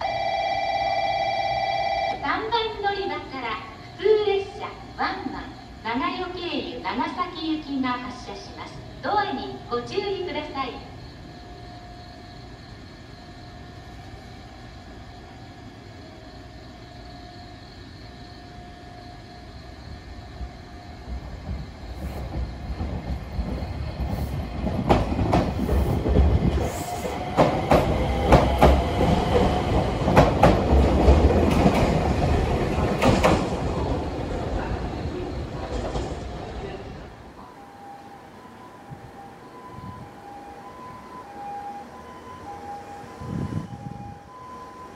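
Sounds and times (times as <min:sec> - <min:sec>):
train low rumble: 0:00.0 - 0:44.9.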